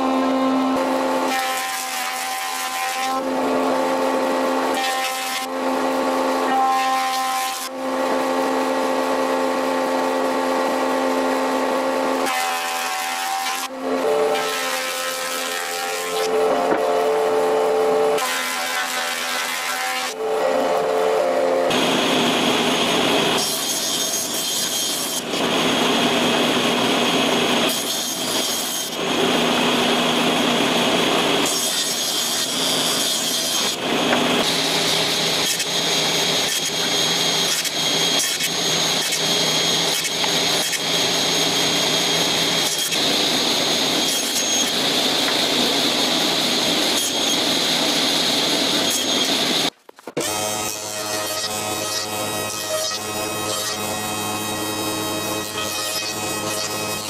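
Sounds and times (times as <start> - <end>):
table saw cutting boards: 0.0 - 57.0
thickness planer whine: 0.0 - 57.0.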